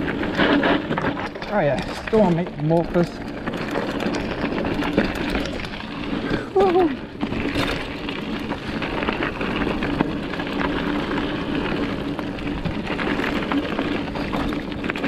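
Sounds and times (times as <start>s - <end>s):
bike tyres rattling on dirt: 0.0s - 15.0s.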